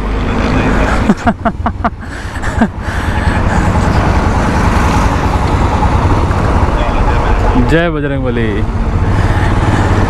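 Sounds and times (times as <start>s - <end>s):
motorcycle engine running: 0.2s - 10.0s.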